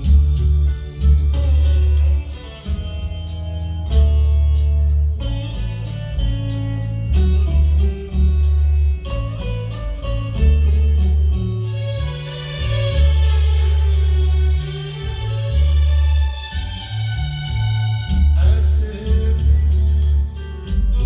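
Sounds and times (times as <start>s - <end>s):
plucked guitar music with beat: 0.0s - 21.0s.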